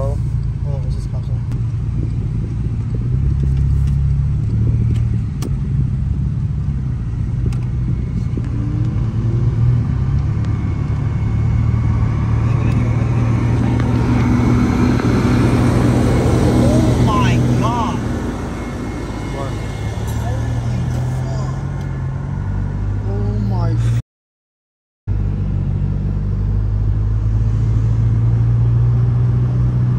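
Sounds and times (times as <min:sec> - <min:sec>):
car engine and road noise: 0:00.0 - 0:24.0, 0:25.1 - 0:29.9.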